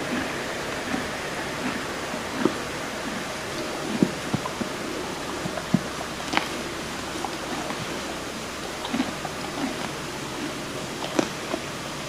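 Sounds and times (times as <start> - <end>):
horse chewing grass: 0.0 - 12.0
steady rushing noise: 0.0 - 12.0.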